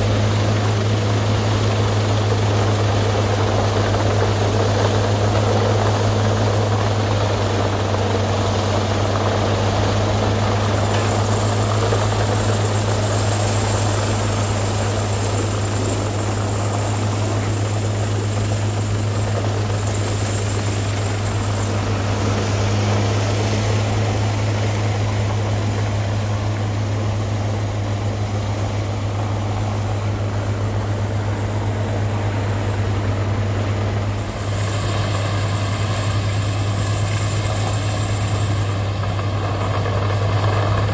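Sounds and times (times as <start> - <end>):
wood grinder roaring: 0.0 - 40.9.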